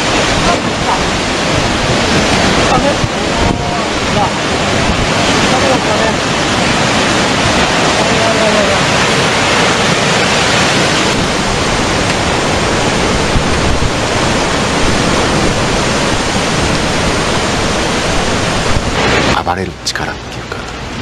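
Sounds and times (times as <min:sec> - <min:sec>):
floodwater churning: 0:00.0 - 0:21.0.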